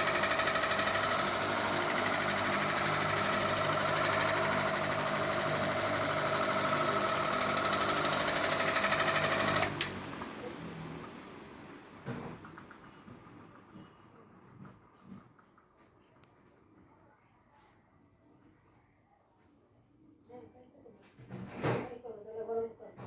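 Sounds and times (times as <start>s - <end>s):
ceiling fan whining and rattling: 0.0s - 19.6s.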